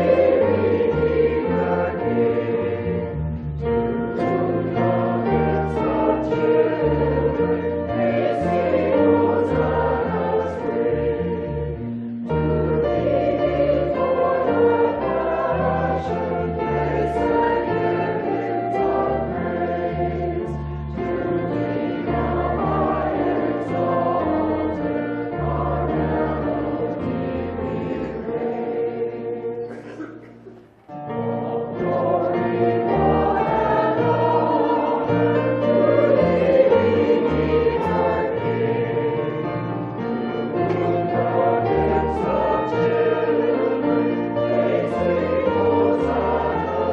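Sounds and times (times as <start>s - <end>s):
choir singing a hymn: 0.0s - 46.9s.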